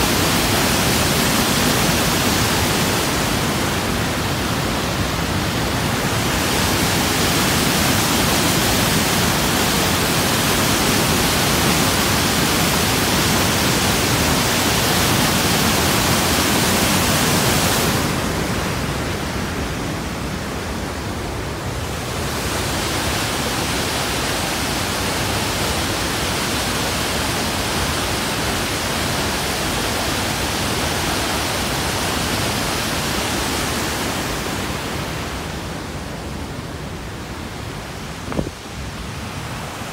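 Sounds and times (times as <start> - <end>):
whitewater river rushing: 0.0 - 39.9.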